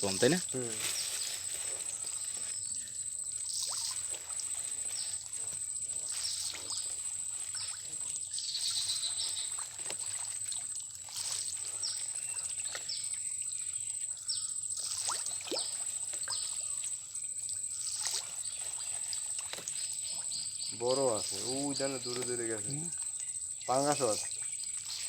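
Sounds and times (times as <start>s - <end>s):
pond water splashing: 0.0s - 25.0s.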